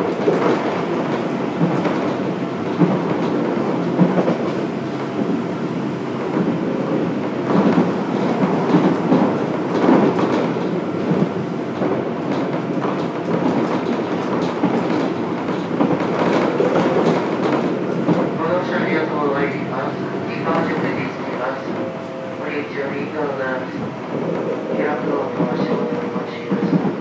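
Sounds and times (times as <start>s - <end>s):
rail joints clickety-clack: 0.0s - 27.0s
train wheels rumbling on rail: 0.0s - 27.0s.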